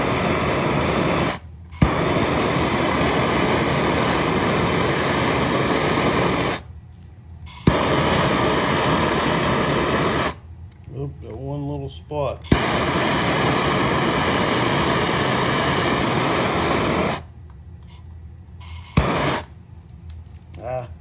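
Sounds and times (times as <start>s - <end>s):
torch igniter click: 0.0s - 6.6s, 7.5s - 10.9s, 12.5s - 20.2s
gas torch flame hissing: 0.0s - 6.8s, 7.4s - 11.1s, 12.4s - 19.6s.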